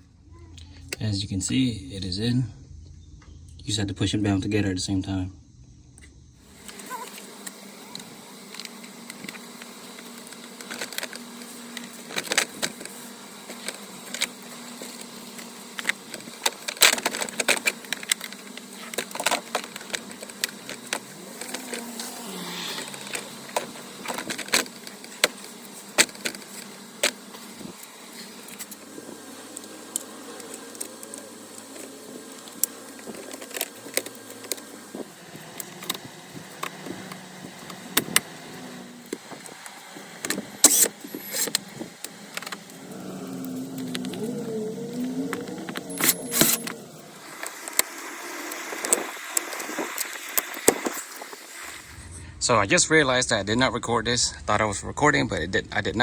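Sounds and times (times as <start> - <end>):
steady low hum: 0.0 - 50.0, 50.6 - 56.0.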